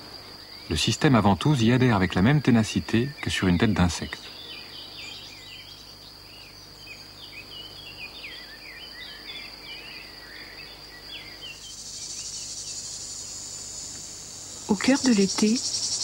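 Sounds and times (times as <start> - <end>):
high insect chirring: 0.0 - 16.0
small birds chirping: 0.0 - 16.0.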